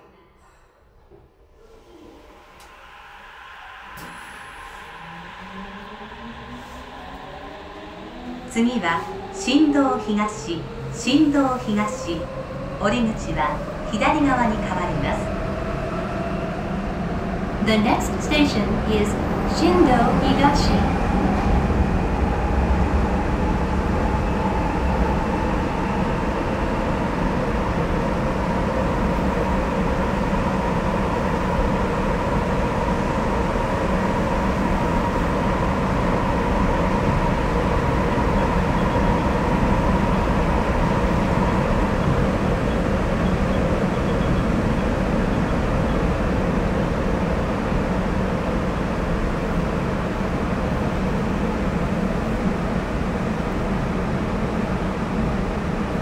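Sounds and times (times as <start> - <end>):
train rumbling from inside: 0.0 - 56.0
train whine: 0.0 - 56.0.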